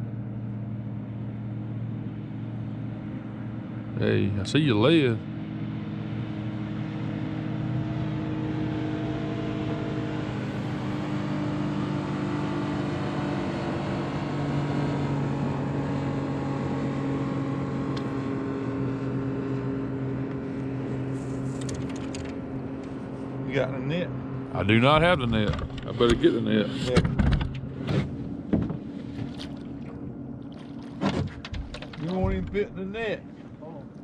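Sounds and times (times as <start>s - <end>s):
boat motor running: 0.0s - 34.0s.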